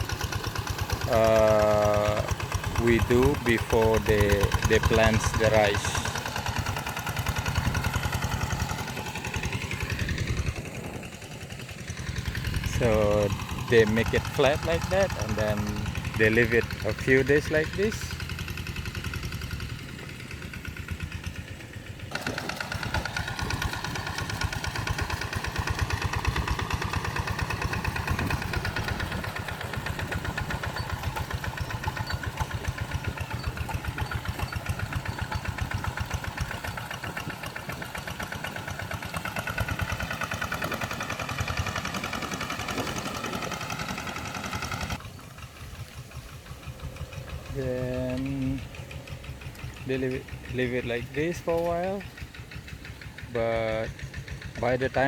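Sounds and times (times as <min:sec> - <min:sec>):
hand tractor engine running: 0:00.0 - 0:55.0.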